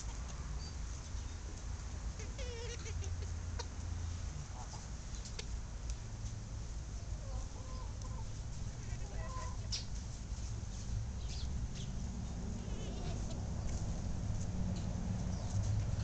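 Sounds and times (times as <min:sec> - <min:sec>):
chickens clucking quietly: 0:00.0 - 0:14.1.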